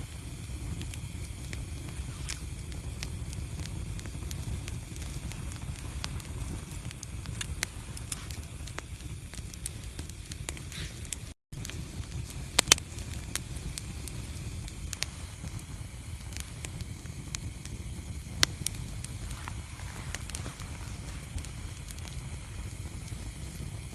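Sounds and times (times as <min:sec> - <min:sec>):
fireplace fire crackling: 0:00.0 - 0:23.9.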